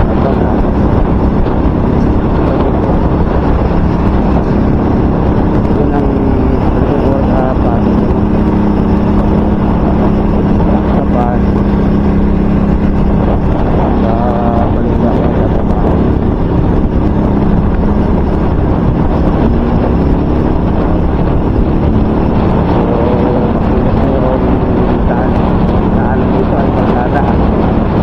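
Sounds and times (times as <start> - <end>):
steady hum: 0.0 - 28.0
wind buffeting microphone: 0.0 - 28.0.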